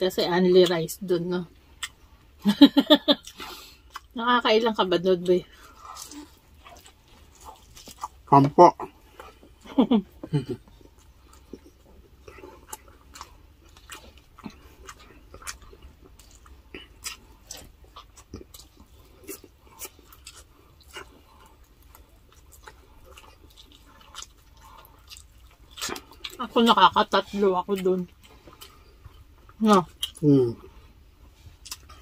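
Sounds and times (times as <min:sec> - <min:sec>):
wet chewing: 0:01.7 - 0:02.3, 0:03.0 - 0:04.2, 0:05.0 - 0:32.0.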